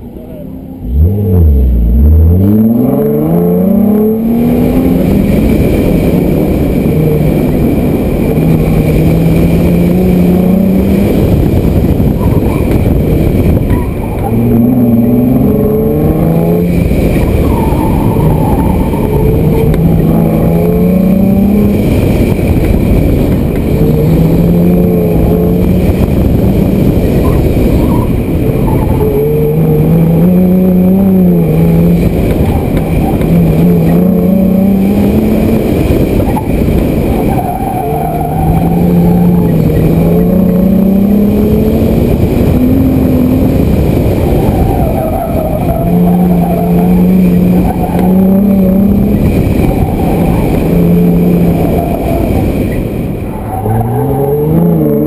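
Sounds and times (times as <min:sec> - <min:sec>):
car engine revving: 0:00.0 - 0:55.0
heavy rush of noise: 0:00.0 - 0:55.0.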